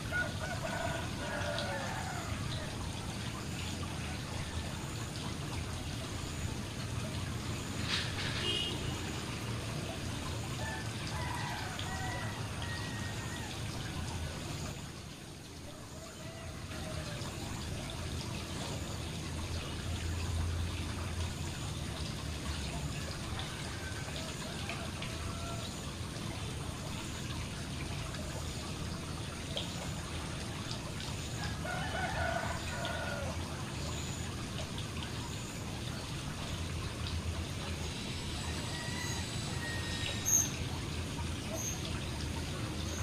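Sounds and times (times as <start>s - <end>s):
fountain splashing into pond: 0.0s - 43.0s.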